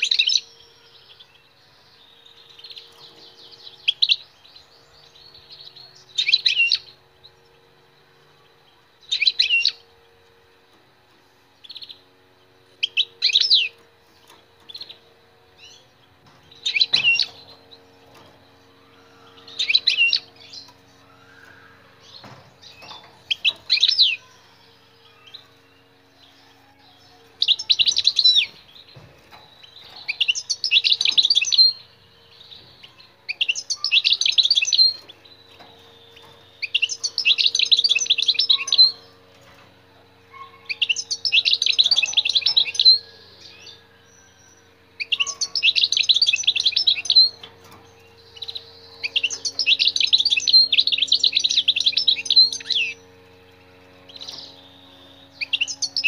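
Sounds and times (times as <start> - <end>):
goldfinch singing: 0.0 - 7.6, 8.4 - 10.2, 11.6 - 56.0.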